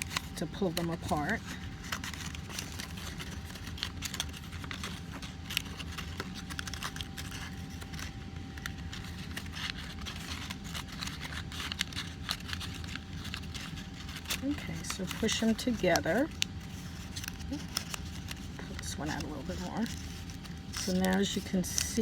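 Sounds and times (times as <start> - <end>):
paper rustling and crinkling: 0.0 - 22.0
steady low hum: 0.0 - 22.0.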